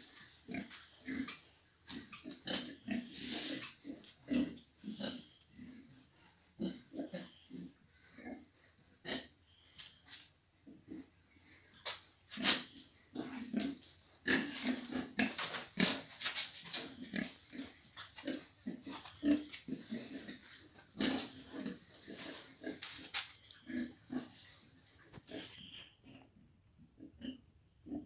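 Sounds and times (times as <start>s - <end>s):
pigs grunting: 0.4s - 9.6s, 12.4s - 26.4s, 27.0s - 28.0s.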